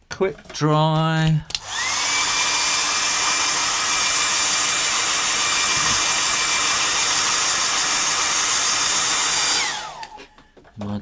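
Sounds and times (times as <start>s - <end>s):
hairdryer blowing air: 1.5s - 10.4s.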